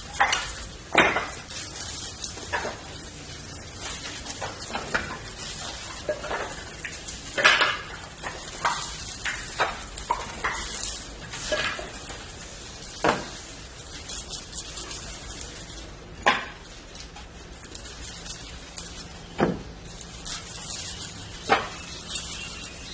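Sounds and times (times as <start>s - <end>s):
firewood crackling and popping: 0.0s - 22.9s
steady sizzling hiss: 0.0s - 22.9s.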